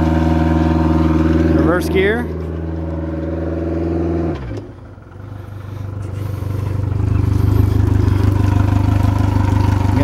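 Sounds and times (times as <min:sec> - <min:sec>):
outboard engine pulsing drone: 0:00.0 - 0:10.0.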